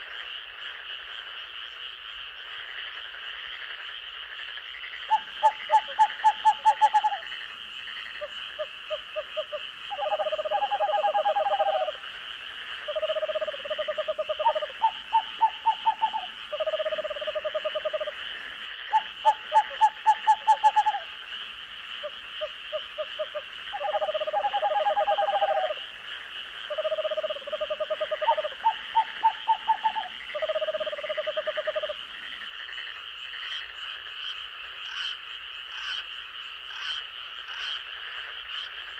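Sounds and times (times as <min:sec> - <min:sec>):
frogs pulsed croaking: 0:00.0 - 0:38.9.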